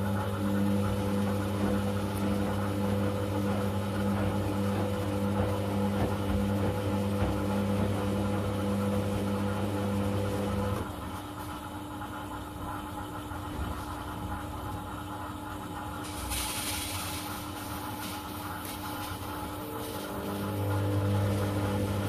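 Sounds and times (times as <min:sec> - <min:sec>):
washing machine drum motor hum: 0:00.0 - 0:22.0.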